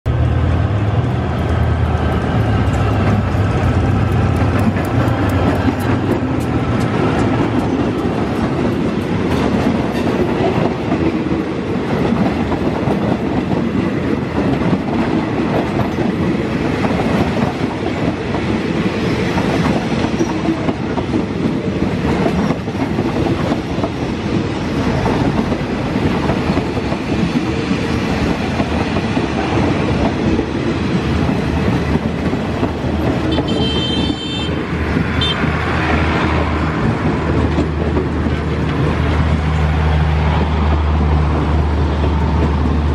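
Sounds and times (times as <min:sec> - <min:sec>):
train wheels rumbling: 0:00.1 - 0:42.9
clatter over rail joints: 0:01.1 - 0:18.3, 0:19.1 - 0:42.9.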